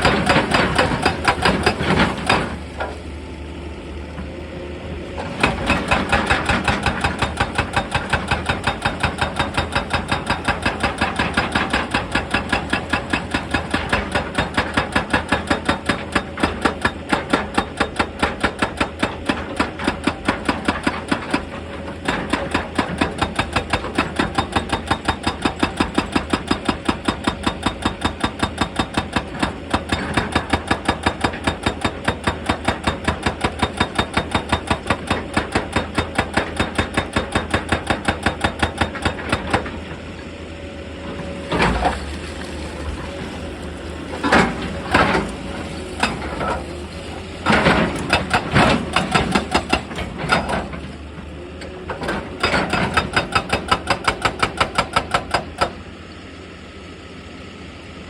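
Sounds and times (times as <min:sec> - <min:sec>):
hydraulic breaker hammering rock: 0:00.0 - 0:03.0, 0:05.2 - 0:40.0, 0:41.5 - 0:42.2, 0:44.1 - 0:55.9
excavator engine running: 0:00.0 - 0:58.0.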